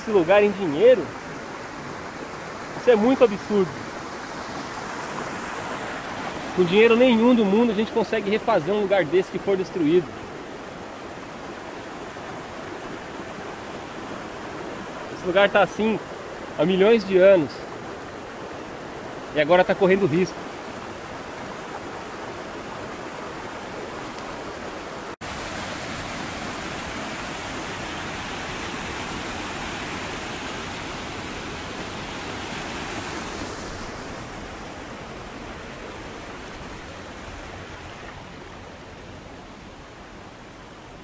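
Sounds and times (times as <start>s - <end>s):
stream rushing over boulders: 0.0s - 41.0s.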